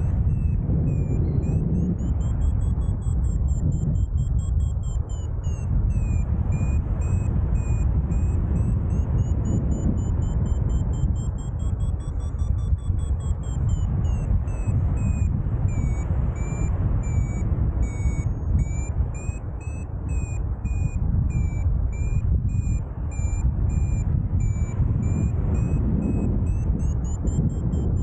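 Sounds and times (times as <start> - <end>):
variometer beeping: 0.0 - 28.0
wind rush on microphone: 0.0 - 28.0.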